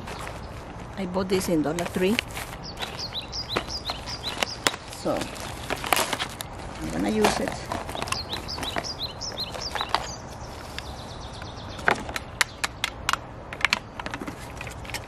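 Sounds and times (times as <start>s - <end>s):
birds chirping: 0.0s - 14.3s.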